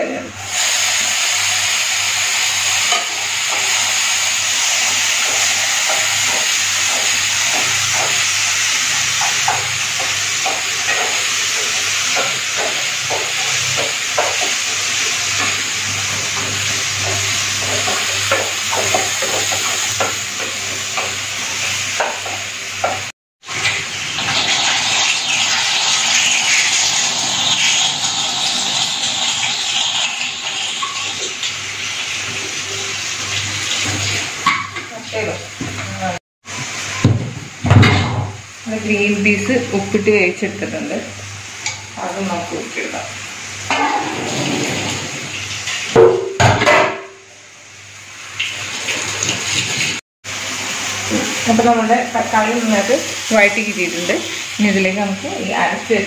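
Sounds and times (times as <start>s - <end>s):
onions and tomato sizzling in pan: 0.0s - 56.0s.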